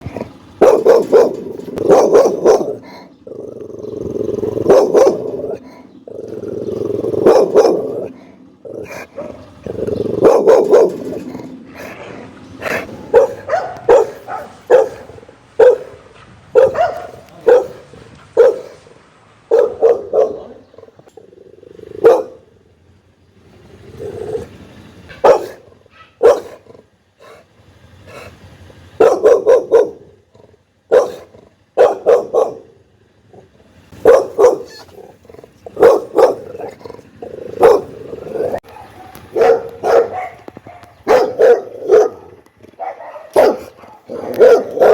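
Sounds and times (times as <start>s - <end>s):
dog growling: 0.0s - 16.0s, 19.9s - 22.6s, 23.4s - 38.6s, 39.3s - 44.9s
dog barking angrily: 0.0s - 22.8s, 25.1s - 44.9s.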